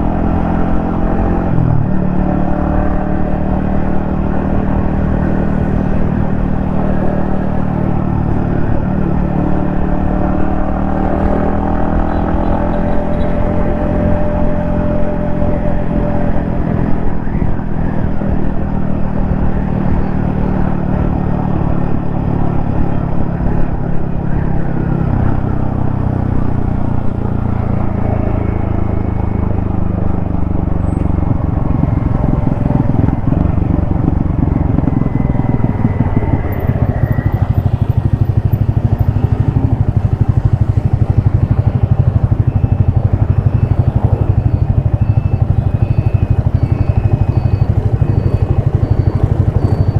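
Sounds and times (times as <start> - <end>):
motorcycle engine running: 0.0 - 24.4, 25.2 - 49.9.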